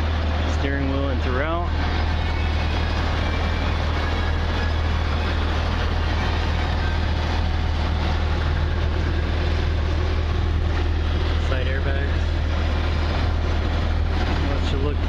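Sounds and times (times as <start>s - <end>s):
running vehicle drone: 0.0s - 15.0s.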